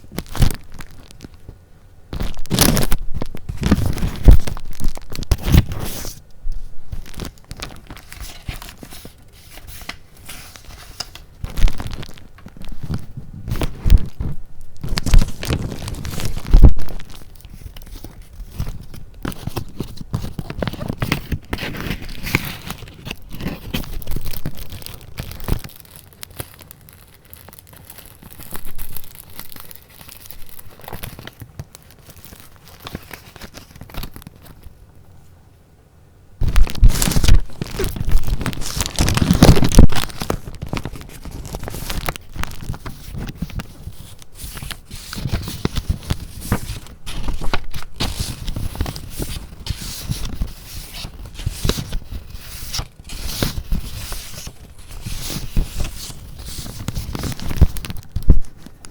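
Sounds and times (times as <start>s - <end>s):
paper rustling and crinkling: 0.0s - 34.8s, 36.4s - 58.9s.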